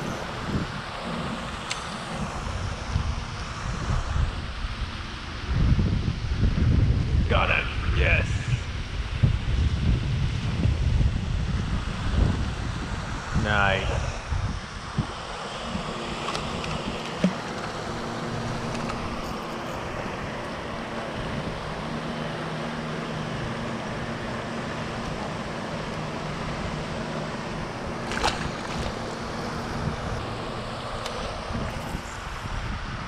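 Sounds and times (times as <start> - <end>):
wind blowing across microphone: 0.0 - 22.0, 26.3 - 33.0
steady low hum: 0.0 - 33.0.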